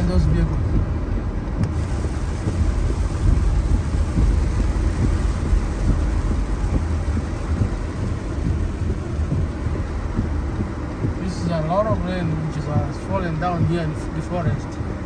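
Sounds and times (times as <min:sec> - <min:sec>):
continuous low rumble: 0:00.0 - 0:15.0
heavy rain pouring: 0:01.6 - 0:15.0.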